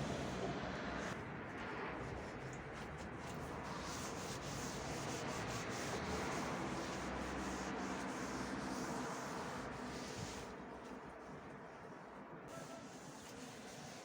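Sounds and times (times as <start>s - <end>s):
scrubbing strokes on a surface: 2.0s - 14.0s.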